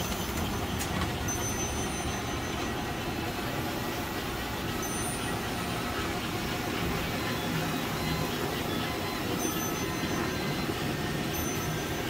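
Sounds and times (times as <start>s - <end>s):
toy trains rumbling on track: 0.0s - 12.0s.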